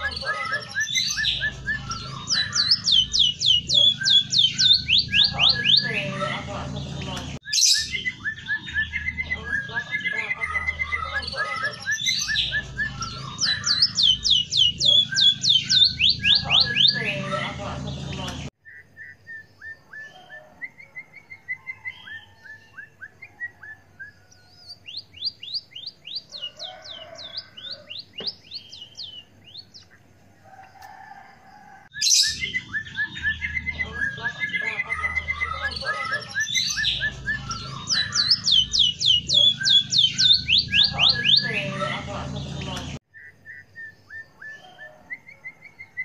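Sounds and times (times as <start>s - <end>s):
bird singing whistled notes: 0.0s - 6.2s, 7.4s - 17.4s, 18.6s - 29.9s, 31.9s - 42.0s, 42.6s - 46.0s.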